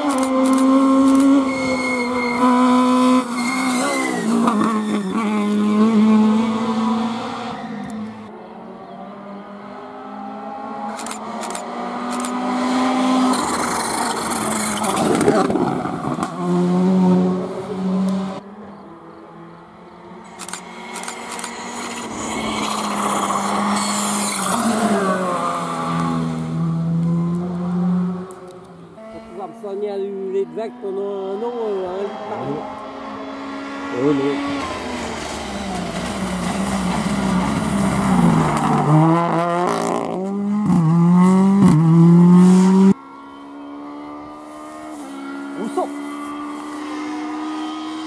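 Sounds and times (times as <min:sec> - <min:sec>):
rally car engine passing at high revs: 0:00.0 - 0:48.0.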